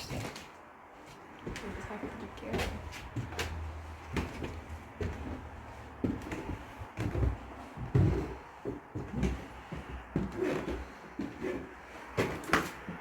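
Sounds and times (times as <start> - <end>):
footsteps on wooden boards: 0.0 - 13.0.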